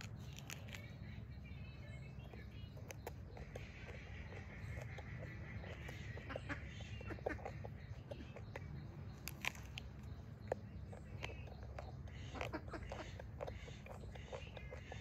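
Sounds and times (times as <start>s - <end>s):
chewing raw vegetables: 0.0s - 15.0s
steady low hum: 0.0s - 15.0s.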